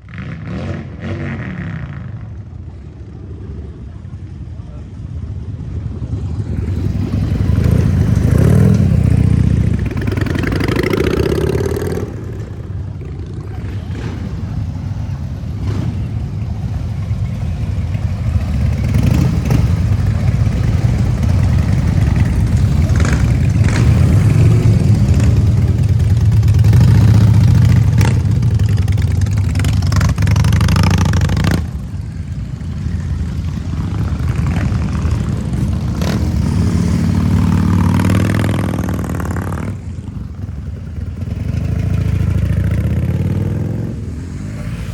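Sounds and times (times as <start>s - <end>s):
motorcycle engine revving: 6.3s - 44.9s.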